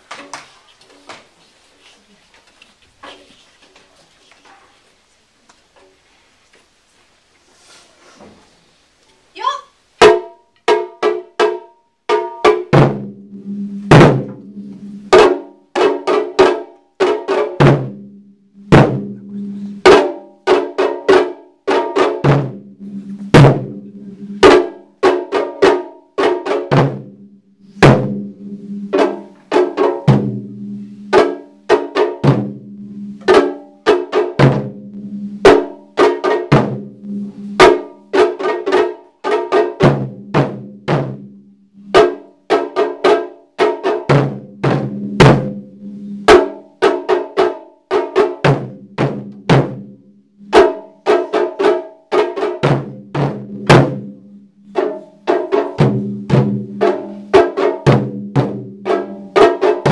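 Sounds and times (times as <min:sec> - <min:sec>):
taiko drumming: 0:09.4 - 0:59.9.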